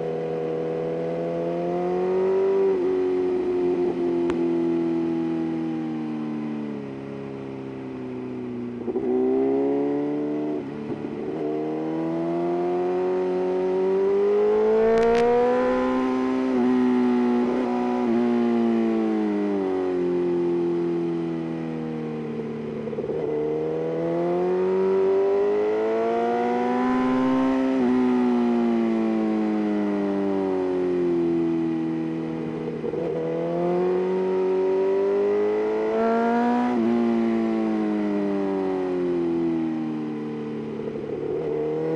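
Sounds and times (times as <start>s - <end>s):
motorcycle engine revving: 0.0s - 5.7s, 8.8s - 39.7s, 40.4s - 41.9s.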